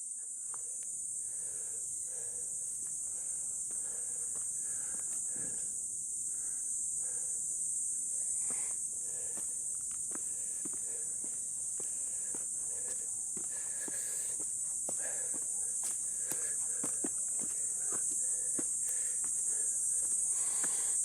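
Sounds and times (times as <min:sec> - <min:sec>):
high-pitched insect chorus: 0:00.0 - 0:21.0
soft footsteps on a trail: 0:00.3 - 0:05.8, 0:08.2 - 0:21.0.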